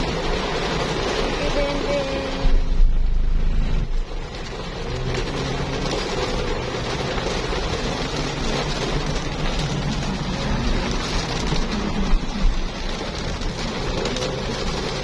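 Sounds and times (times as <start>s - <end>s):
heavy low rumble: 0.0s - 15.0s
road noise: 0.0s - 15.0s.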